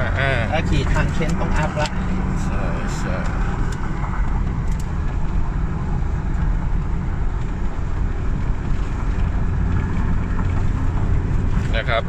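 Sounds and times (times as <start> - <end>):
car road noise from inside: 0.0 - 12.0.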